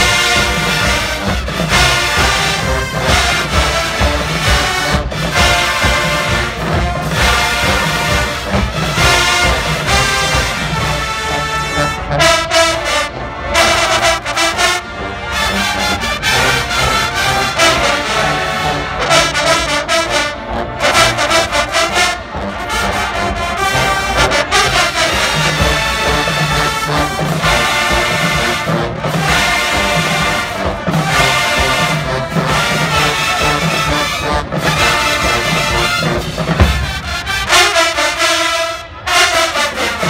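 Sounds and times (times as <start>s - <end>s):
marching band brass playing: 0.0s - 40.0s.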